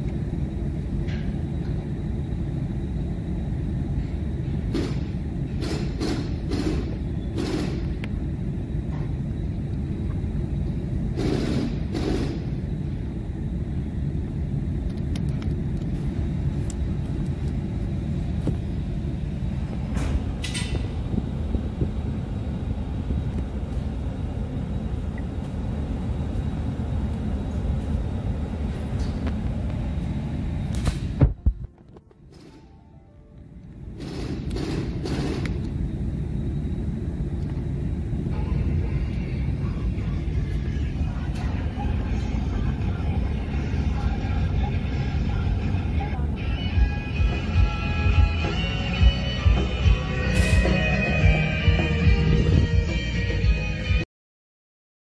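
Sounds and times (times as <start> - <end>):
vehicle cabin rumble: 3.8 - 53.0.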